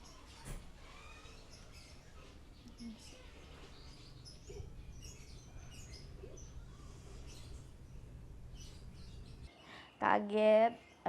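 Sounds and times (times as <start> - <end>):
steady low hum: 0.0 - 9.5
faint chirping of small birds: 0.0 - 11.0.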